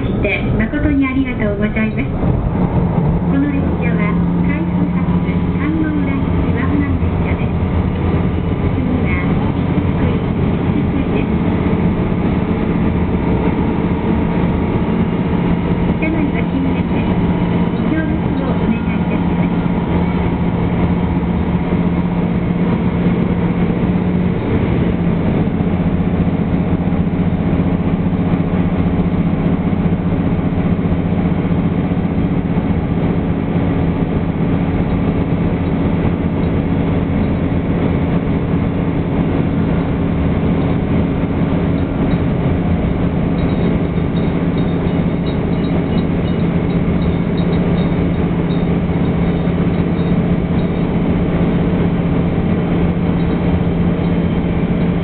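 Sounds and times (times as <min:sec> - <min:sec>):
diesel engine drone: 0:00.0 - 0:55.0
wheels rumbling on rails: 0:00.0 - 0:55.0.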